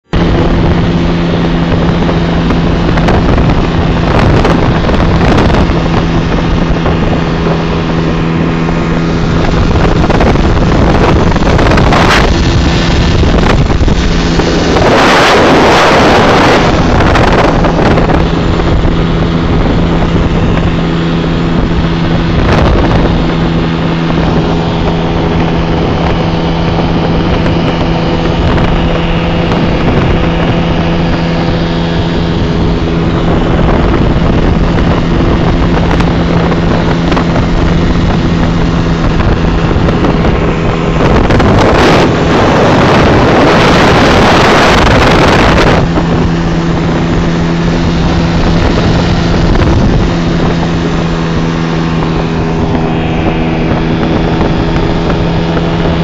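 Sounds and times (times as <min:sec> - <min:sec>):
wind buffeting microphone: 0:00.0 - 0:56.0
motor running: 0:00.1 - 0:56.0.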